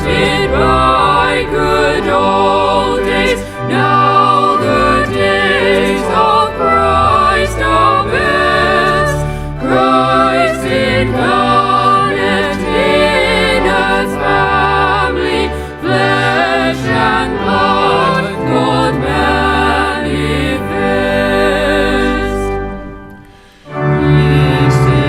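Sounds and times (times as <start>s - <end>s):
instrumental accompaniment: 0.0s - 25.0s
voices singing with vibrato: 0.0s - 25.0s.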